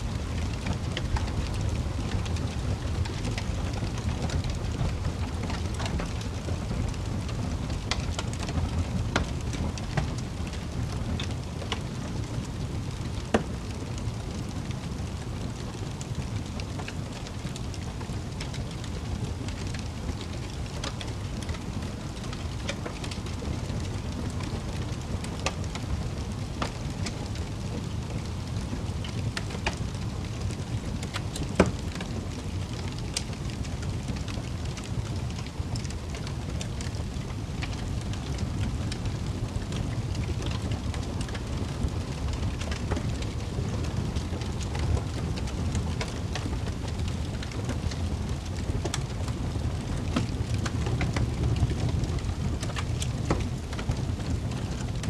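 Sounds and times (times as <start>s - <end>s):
flames rumbling: 0.0s - 55.0s
wood fire crackling: 0.0s - 55.0s.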